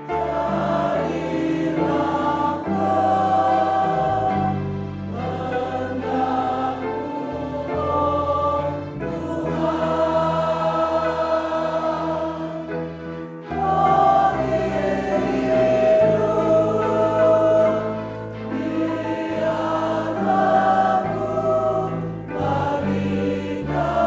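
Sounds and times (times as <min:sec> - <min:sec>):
choir singing a hymn: 0:00.0 - 0:24.0
low accompanying notes: 0:00.0 - 0:24.0.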